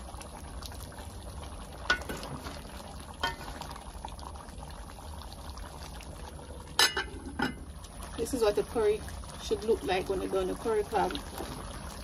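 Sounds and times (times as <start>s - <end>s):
pot simmering and bubbling: 0.0s - 12.0s.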